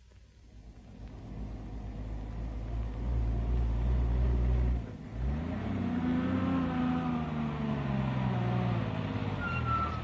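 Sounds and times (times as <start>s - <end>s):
jeep engine rumbling: 0.0s - 10.0s.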